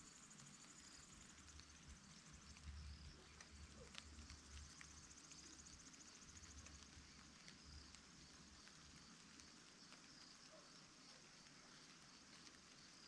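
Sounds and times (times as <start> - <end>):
light ticks: 0.0 - 13.0.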